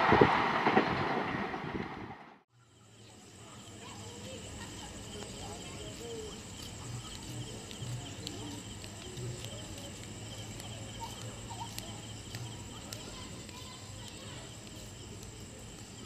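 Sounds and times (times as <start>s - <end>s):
crickets chirring: 2.5s - 16.0s.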